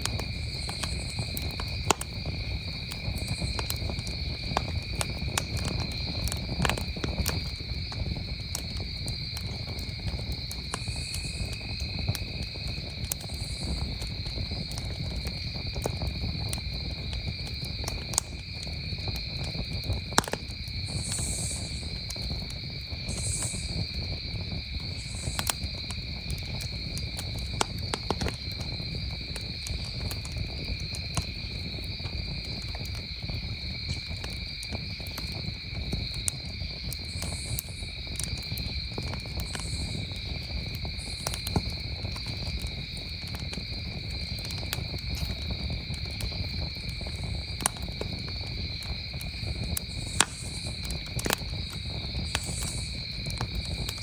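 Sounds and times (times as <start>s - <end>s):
campfire crackling and popping: 0.0s - 54.0s
crickets trilling: 0.0s - 54.0s.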